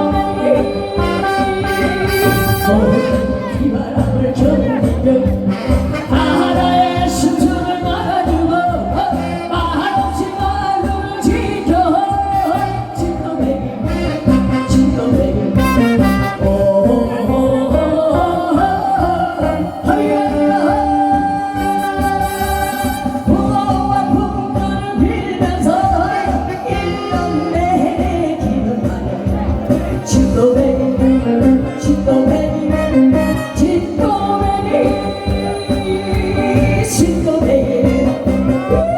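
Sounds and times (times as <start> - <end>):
backing music with steady beat: 0.0 - 38.9
woman singing with vibrato: 0.0 - 38.9.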